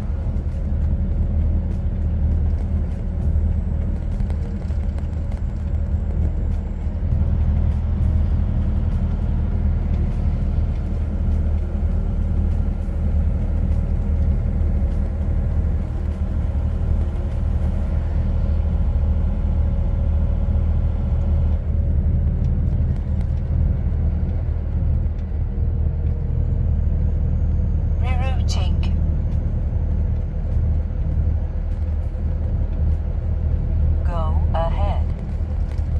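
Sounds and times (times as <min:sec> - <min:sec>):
truck engine and road noise: 0:00.0 - 0:35.9.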